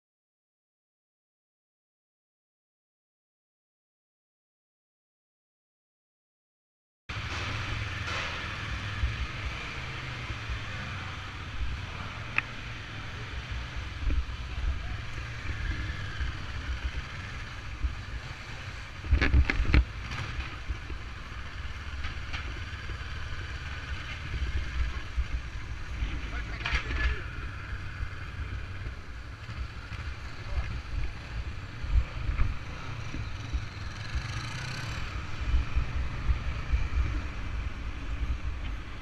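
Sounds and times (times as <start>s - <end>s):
motorcycle engine running: 7.1s - 39.0s.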